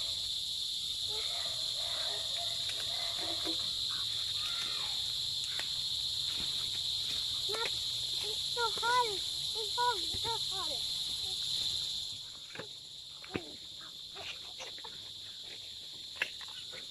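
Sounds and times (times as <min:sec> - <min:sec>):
insects calling: 0:00.0 - 0:16.9.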